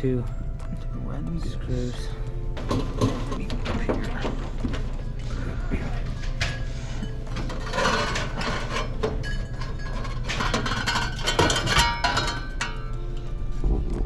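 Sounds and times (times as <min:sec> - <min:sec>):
low machine hum: 0:00.0 - 0:14.0
hand tools clinking on metal: 0:01.5 - 0:13.3.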